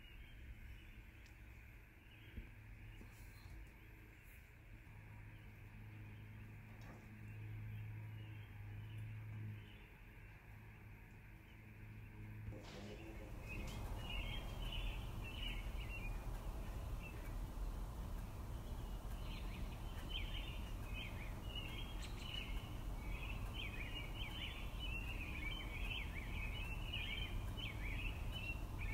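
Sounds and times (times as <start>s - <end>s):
low outdoor background noise: 0.0s - 28.9s
small birds chirping: 0.0s - 28.9s.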